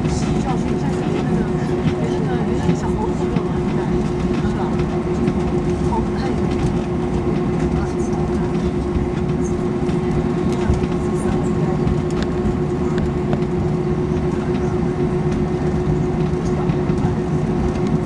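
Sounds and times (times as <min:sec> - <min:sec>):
airliner engine hum: 0:00.0 - 0:18.0.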